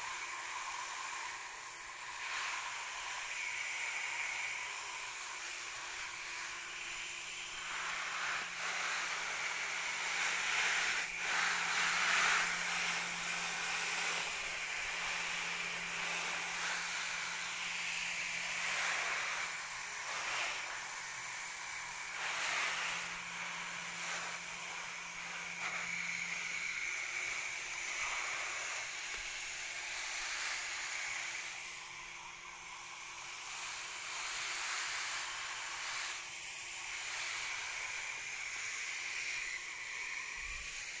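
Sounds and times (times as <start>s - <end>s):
hose spraying water on leaves: 0.0s - 41.0s.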